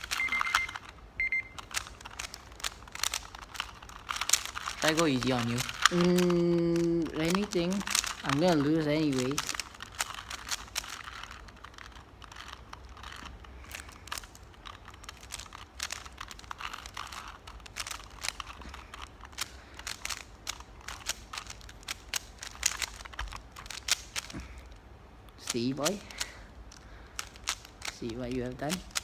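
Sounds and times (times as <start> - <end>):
puzzle cube clicking: 0.0 - 29.0.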